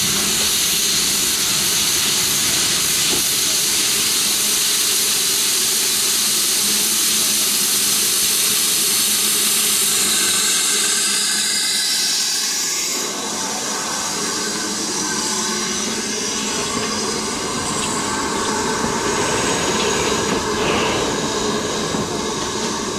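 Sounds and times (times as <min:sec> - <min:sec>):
steam locomotive hiss: 0:00.0 - 0:22.9.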